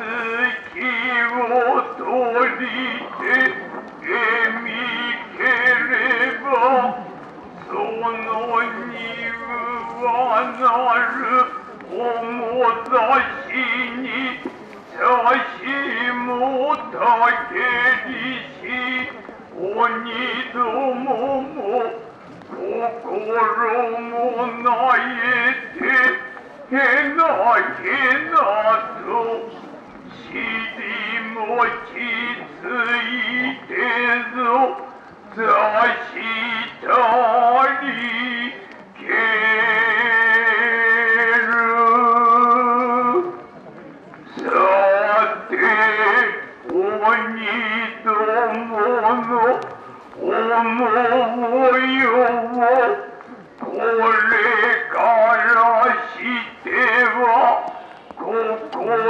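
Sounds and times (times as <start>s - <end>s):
man chanting: 0.0s - 43.4s, 44.3s - 59.0s.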